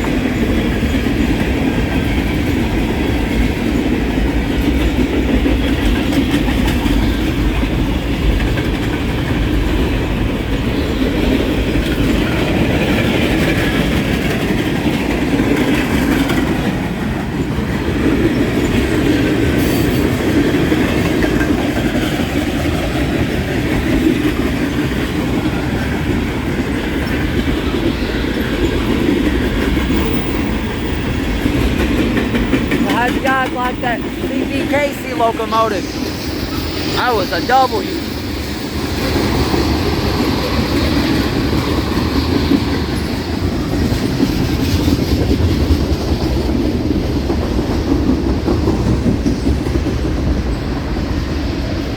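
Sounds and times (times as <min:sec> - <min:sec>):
freight train wheels rumbling on rail: 0:00.0 - 0:51.9.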